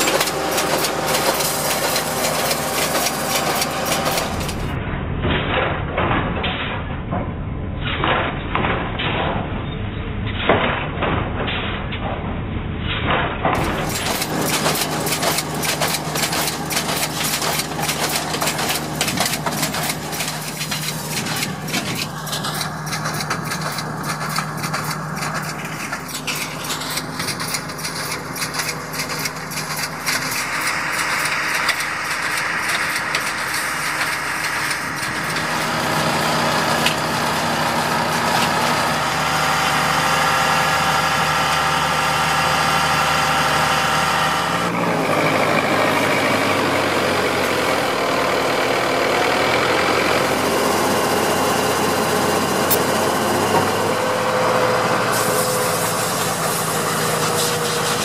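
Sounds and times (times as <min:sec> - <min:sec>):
heavy diesel engine running: 0:00.0 - 0:05.2, 0:13.4 - 0:58.0
rapid mechanical clicking and rattling: 0:00.0 - 0:09.5, 0:12.9 - 0:58.0.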